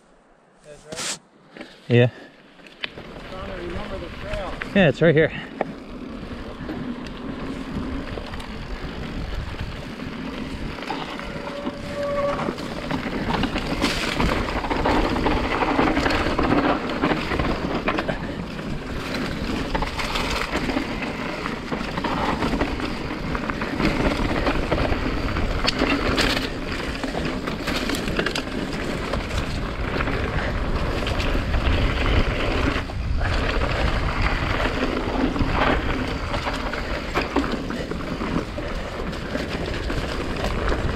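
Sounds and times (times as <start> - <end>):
bike rattling over bumps: 2.2 - 40.9
tyres crunching over dirt and rocks: 2.6 - 40.9
wind rushing across microphone: 3.0 - 40.9.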